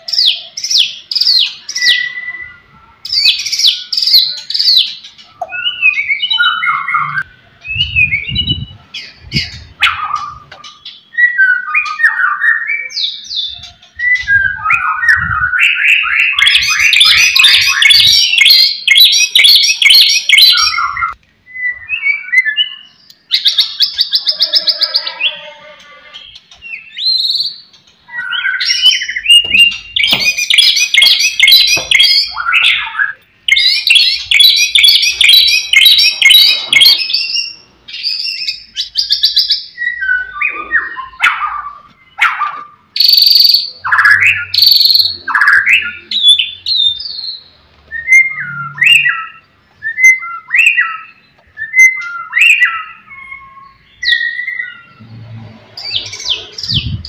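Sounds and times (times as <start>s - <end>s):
bird singing trills and whistles: 0.0s - 25.4s, 26.2s - 42.4s, 43.0s - 55.1s.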